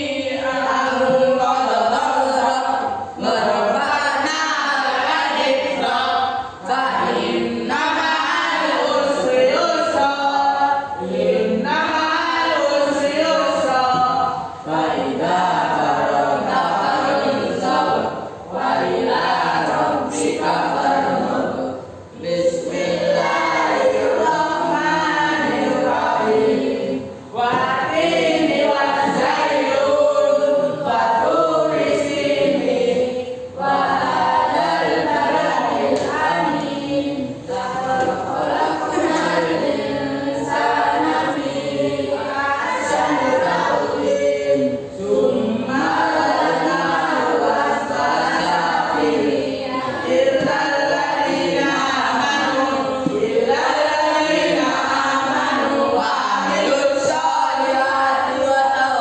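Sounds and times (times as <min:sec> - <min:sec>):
group singing in unison: 0:00.0 - 0:59.0.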